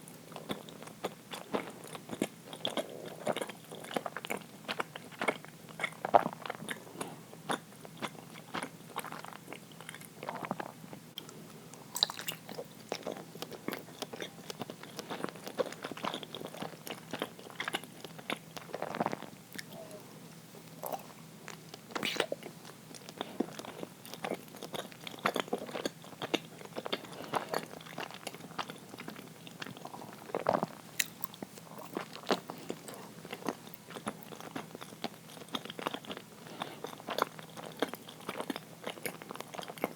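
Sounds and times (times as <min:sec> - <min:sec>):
person chewing: 0:00.3 - 0:06.9, 0:07.5 - 0:20.1, 0:20.7 - 0:39.9.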